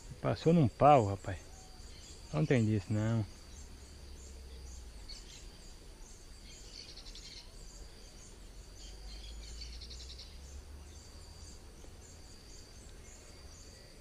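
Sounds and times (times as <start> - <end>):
bird chirps: 0.0 - 14.0
high insect drone: 0.0 - 14.0.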